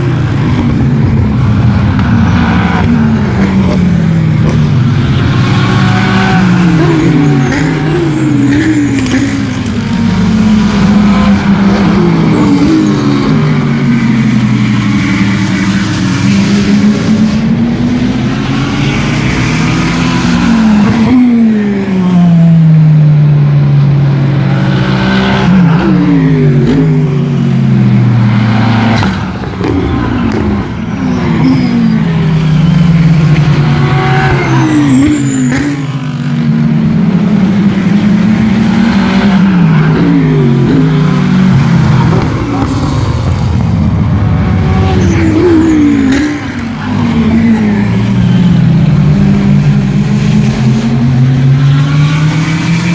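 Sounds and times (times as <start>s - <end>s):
race car engines at full throttle: 0.0s - 52.9s.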